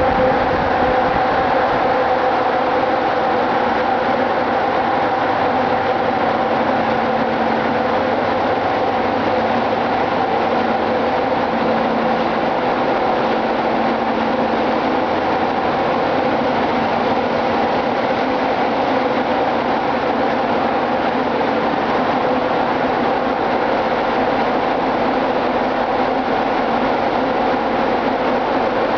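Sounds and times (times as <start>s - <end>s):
engine room machinery drone: 0.0s - 28.9s.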